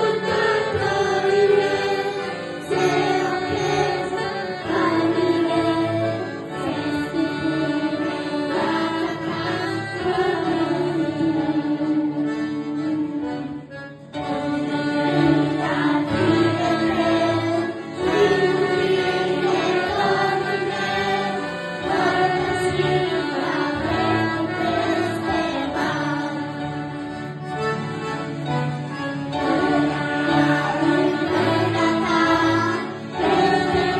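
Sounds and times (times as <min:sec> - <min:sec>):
children singing: 0:00.0 - 0:13.2, 0:14.2 - 0:27.6, 0:29.2 - 0:33.9.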